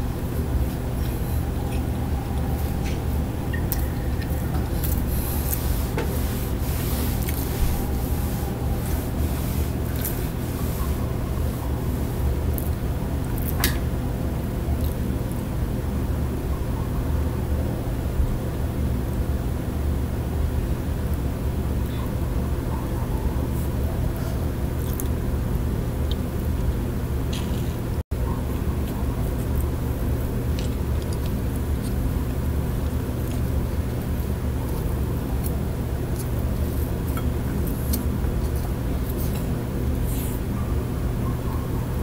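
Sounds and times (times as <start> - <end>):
low rumbling hum: 0.0 - 42.0.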